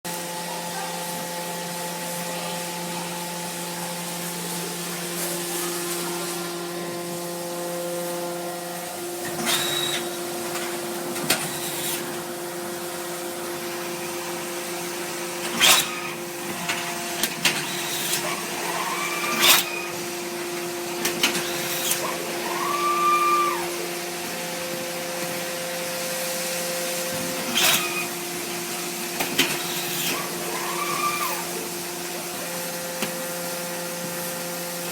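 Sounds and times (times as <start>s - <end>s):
hydraulic power unit hum: 0.1s - 34.9s.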